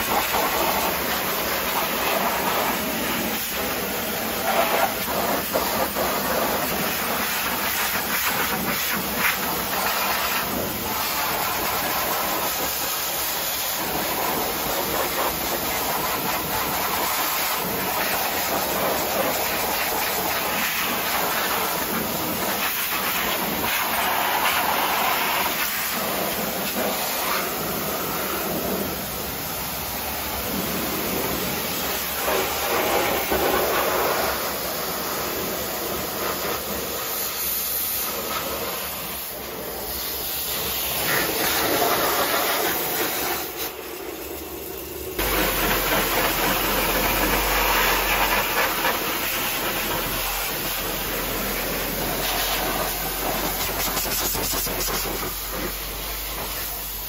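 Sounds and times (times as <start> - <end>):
pressure washer spray hissing: 0.0 - 57.0.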